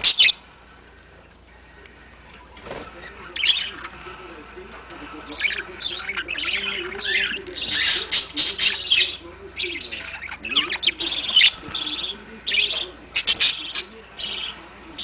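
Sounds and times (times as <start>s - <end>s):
parrots chattering: 0.0s - 15.0s.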